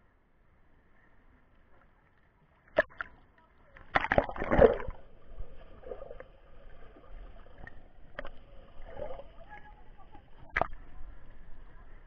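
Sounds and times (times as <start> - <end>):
water sloshing and gurgling: 1.6 - 12.0.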